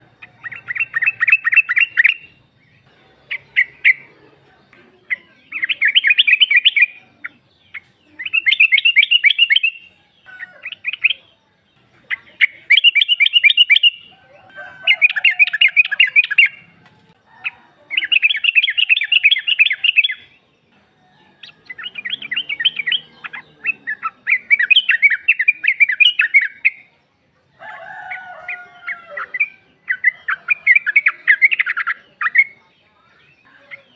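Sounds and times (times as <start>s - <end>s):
bird rapid chattering calls: 0.0s - 4.1s, 4.7s - 14.1s, 14.9s - 16.8s, 17.4s - 20.4s, 21.4s - 26.9s, 28.2s - 33.9s.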